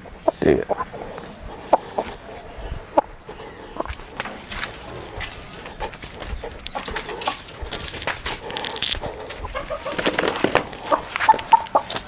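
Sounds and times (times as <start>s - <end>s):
rooster clucking and squawking: 0.0s - 12.0s.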